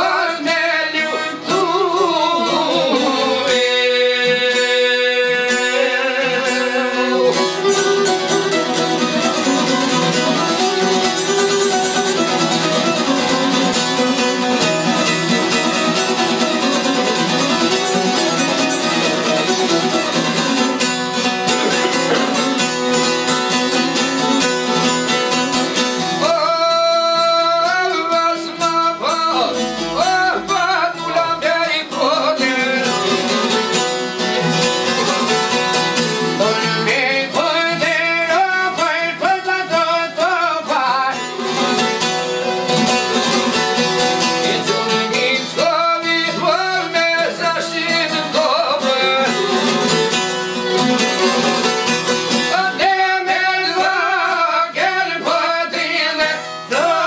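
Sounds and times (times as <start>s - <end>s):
man singing: 0.0s - 20.8s, 25.9s - 34.6s, 36.2s - 42.0s, 43.8s - 50.0s, 52.4s - 57.0s
plucked lutes: 0.0s - 57.0s.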